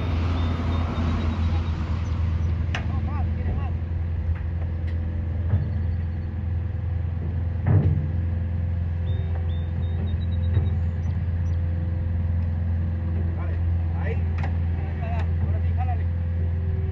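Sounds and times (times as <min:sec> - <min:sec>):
vehicle engine rumble: 0:00.0 - 0:16.9.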